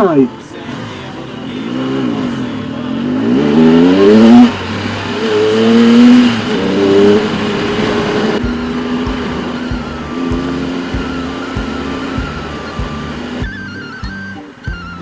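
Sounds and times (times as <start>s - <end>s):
motorcycle engine accelerating: 0.6s - 13.7s.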